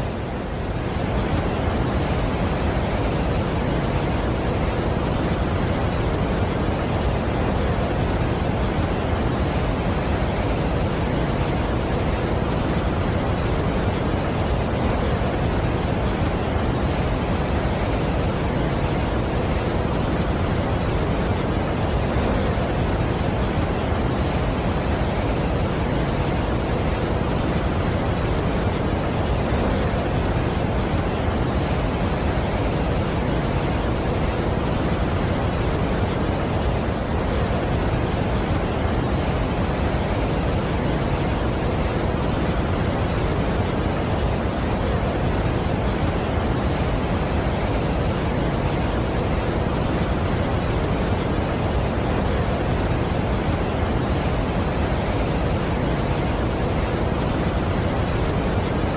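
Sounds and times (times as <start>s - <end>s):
large waterfall rushing: 0.0s - 58.9s.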